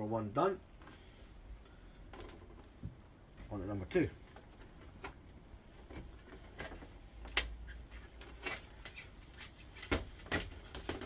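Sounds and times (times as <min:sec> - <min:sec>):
clicks and rustles of wire: 0:00.8 - 0:11.0.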